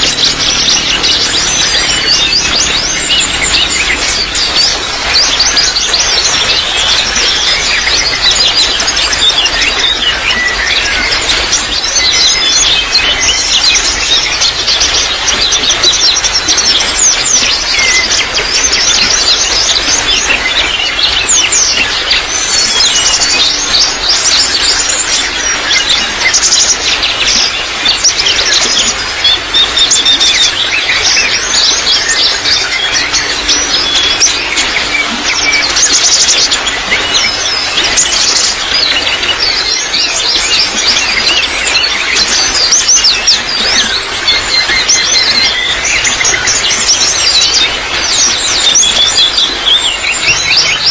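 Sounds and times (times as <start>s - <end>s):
songbirds chirping and trilling: 0.0s - 50.9s
trickling water: 0.0s - 50.9s.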